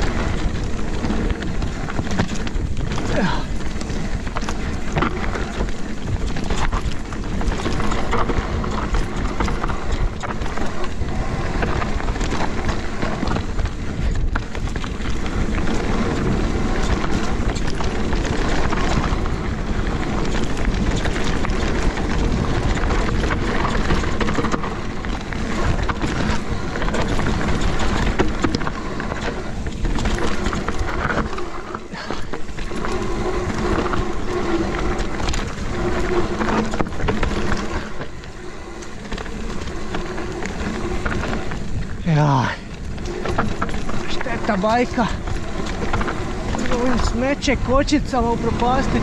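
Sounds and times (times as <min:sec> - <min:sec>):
bike rattling: 0:00.0 - 0:49.0
bike tyres clattering over rocks: 0:00.0 - 0:49.0
wind rumble on microphone: 0:00.0 - 0:49.0.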